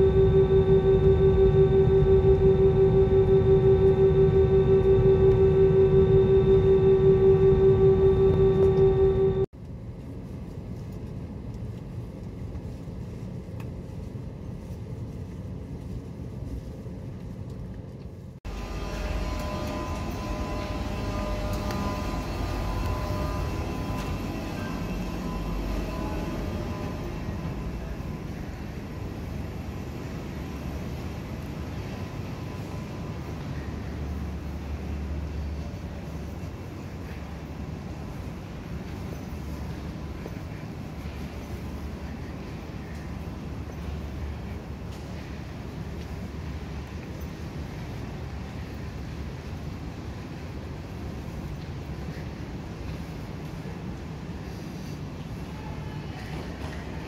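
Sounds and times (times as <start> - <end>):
aircraft engine hum: 0.0 - 55.3
terminal hall hum: 0.0 - 57.0.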